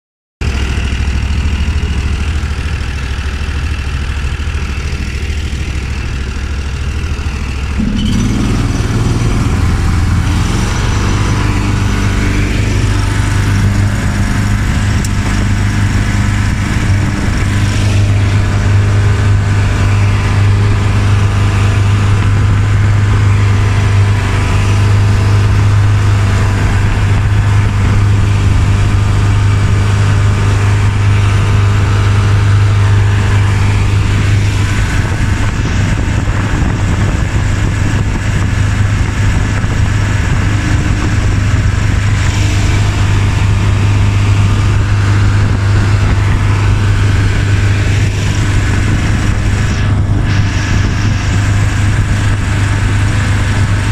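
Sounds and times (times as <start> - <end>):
boat motor idling and revving: 0.4 - 53.9.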